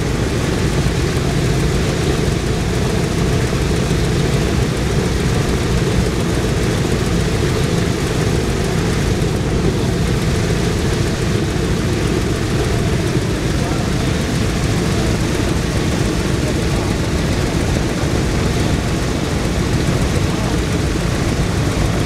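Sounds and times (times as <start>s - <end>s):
radial aircraft engines idling: 0.0s - 22.0s.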